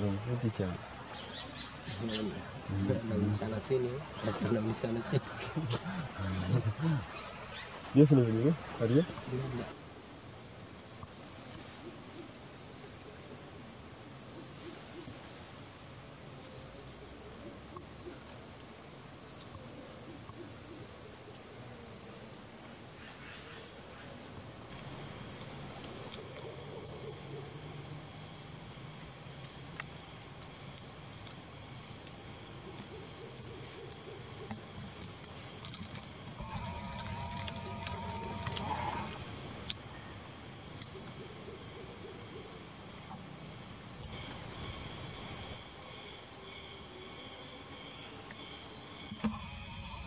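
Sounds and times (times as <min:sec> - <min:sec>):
insect chorus drone: 0:00.0 - 0:50.0.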